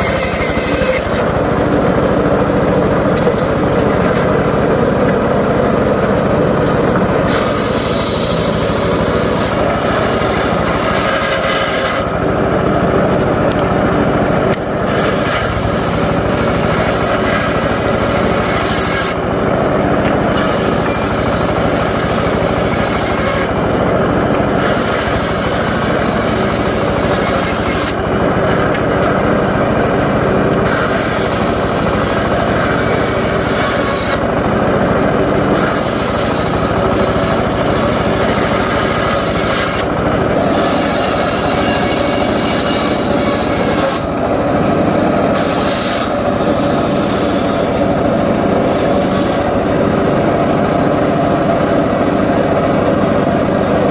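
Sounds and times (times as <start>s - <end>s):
engine drone: 0.0s - 53.9s
saw blade whining in wood: 0.0s - 53.9s.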